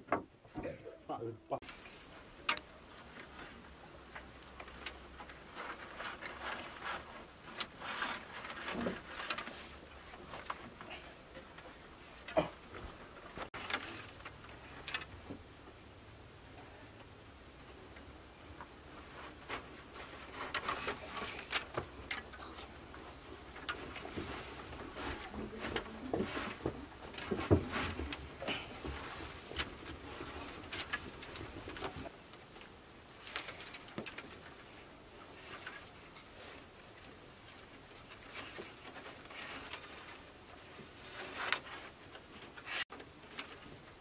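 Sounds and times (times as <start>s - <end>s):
cord rustling and scraping: 1.6s - 15.4s, 18.5s - 44.0s
thin poles clicking and knocking: 1.6s - 15.6s, 17.9s - 44.0s.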